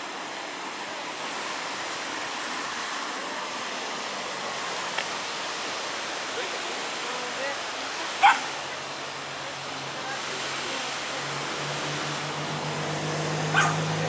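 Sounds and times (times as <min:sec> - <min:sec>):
floodwater rushing in river: 0:00.0 - 0:14.0.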